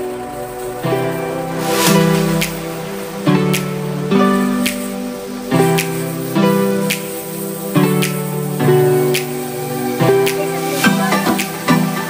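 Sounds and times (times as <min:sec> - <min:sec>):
soft music with sustained chords: 0:00.0 - 0:12.0.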